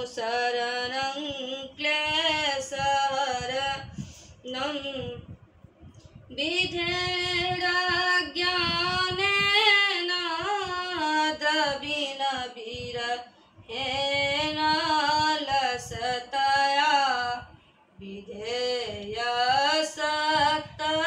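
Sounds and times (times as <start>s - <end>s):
woman singing a hymn: 0.0s - 5.4s, 6.3s - 21.0s.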